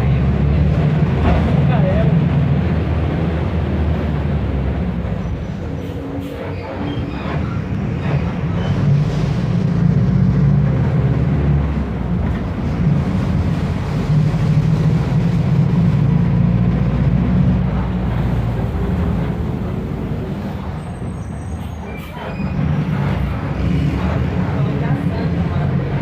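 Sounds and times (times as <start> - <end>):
bus diesel engine droning: 0.0 - 26.0.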